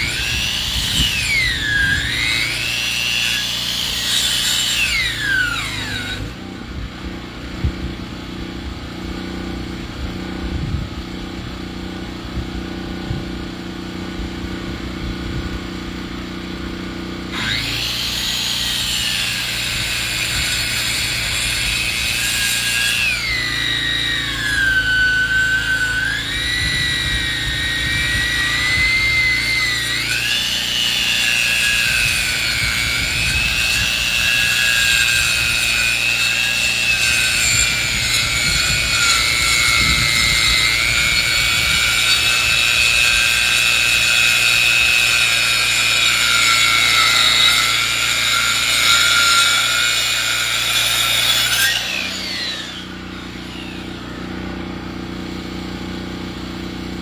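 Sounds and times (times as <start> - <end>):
engine-driven saw cutting log: 0.0 - 57.0.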